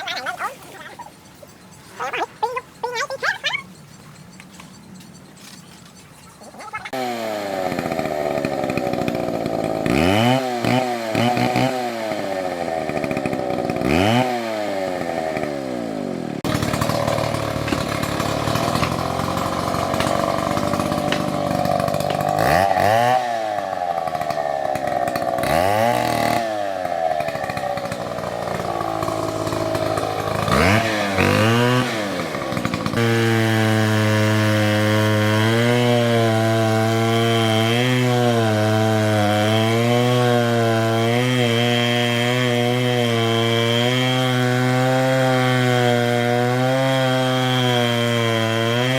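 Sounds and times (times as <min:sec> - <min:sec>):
chainsaw cutting wood: 0:06.9 - 0:48.9.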